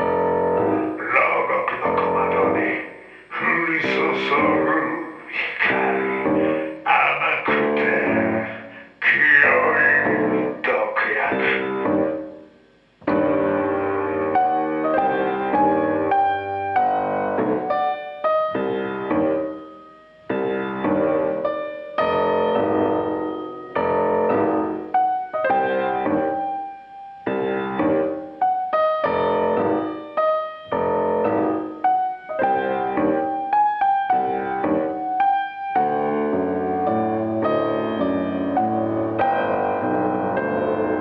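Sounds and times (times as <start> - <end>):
grand piano playing: 0.0 - 41.0.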